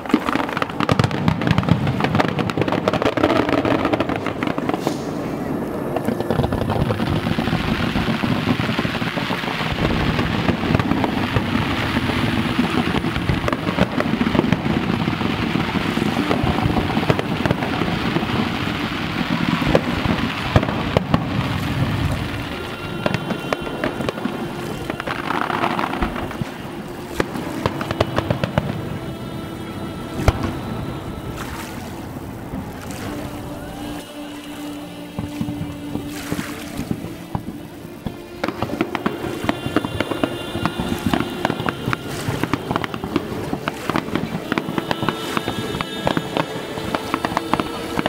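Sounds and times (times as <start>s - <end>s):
firework bangs: 0.0s - 48.0s
fireworks crackling: 0.0s - 48.0s.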